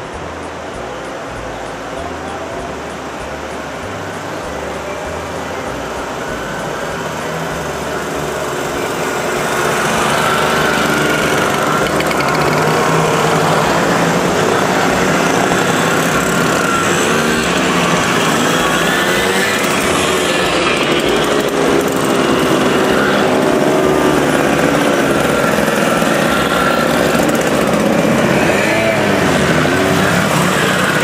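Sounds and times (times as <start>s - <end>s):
moped engines passing: 0.0s - 31.0s.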